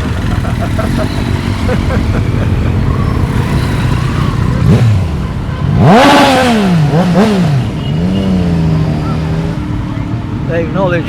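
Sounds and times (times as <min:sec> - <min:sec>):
motorcycle engine revving: 0:00.0 - 0:10.1
motorcycle engines rumbling: 0:00.0 - 0:11.0.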